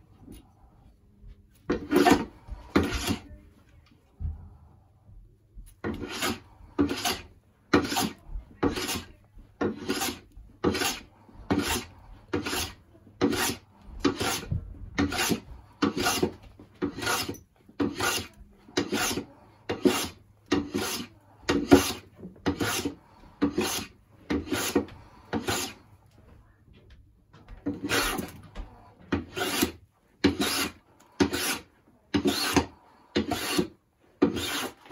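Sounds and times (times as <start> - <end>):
hand plane rasping on wood: 1.7 - 3.3, 5.8 - 25.8, 27.7 - 28.3, 29.1 - 34.9.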